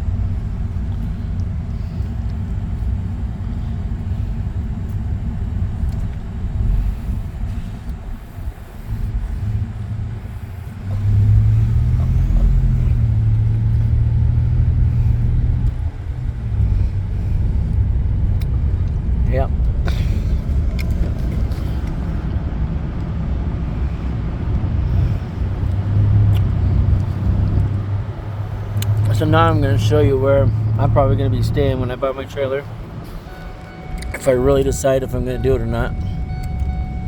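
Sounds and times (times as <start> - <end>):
steady low hum: 0.0 - 37.0
vehicle engine rumbling: 0.0 - 37.0.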